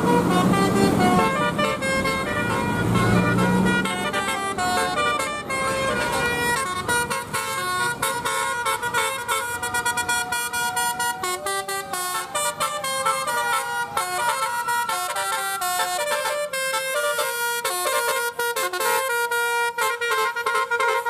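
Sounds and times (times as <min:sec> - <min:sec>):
bus air horn playing a tune: 0:00.0 - 0:21.0.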